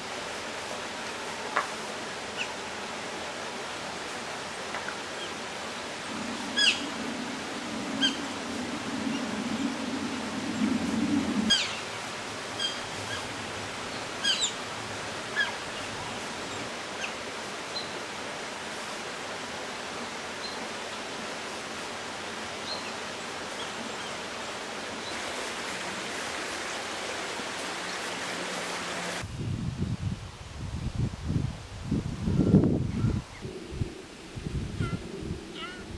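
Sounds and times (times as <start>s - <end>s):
steady rushing hiss: 0.0s - 35.9s.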